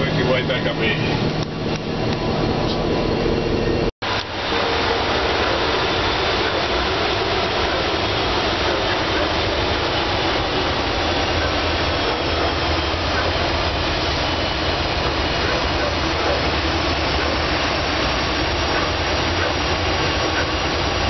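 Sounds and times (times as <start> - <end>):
freight train running: 0.0 - 21.0.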